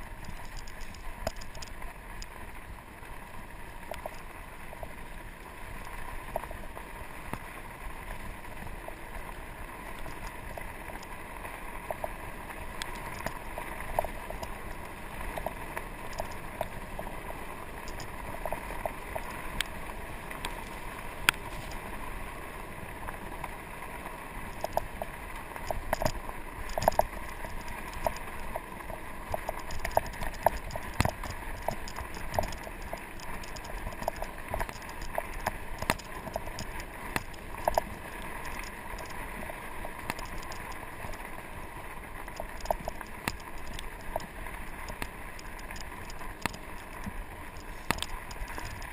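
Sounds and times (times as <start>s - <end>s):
wind and tyre noise: 0.0s - 48.9s.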